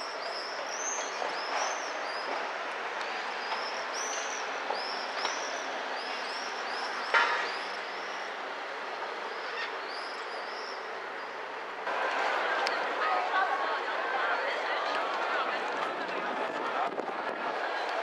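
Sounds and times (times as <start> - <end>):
background hubbub: 0.0 - 18.0.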